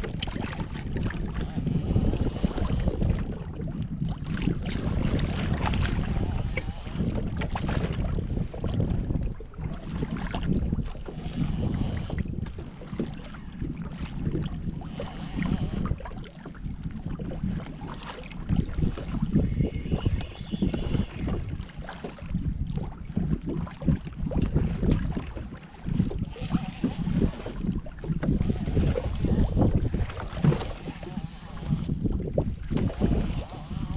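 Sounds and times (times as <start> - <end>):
water slapping against hull: 0.0 - 33.9
wind buffeting microphone: 0.0 - 33.9.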